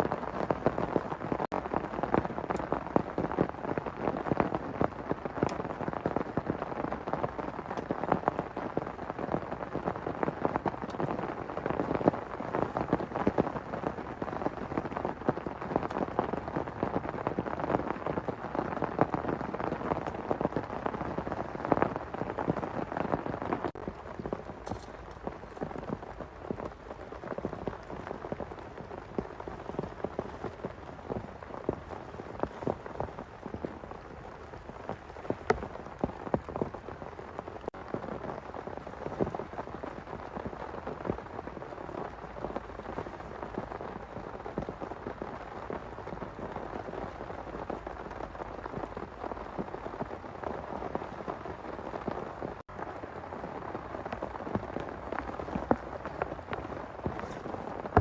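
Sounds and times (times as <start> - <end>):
heavy rain falling: 0.0 - 58.0
raindrops hitting a surface: 0.0 - 58.0.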